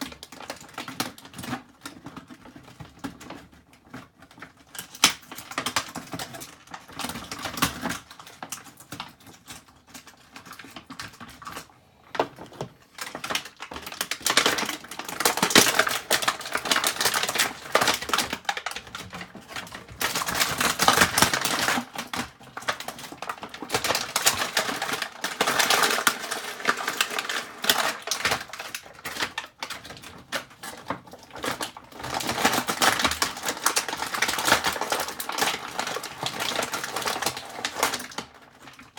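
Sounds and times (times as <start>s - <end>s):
toy packaging clicking and crackling: 0.0s - 38.9s.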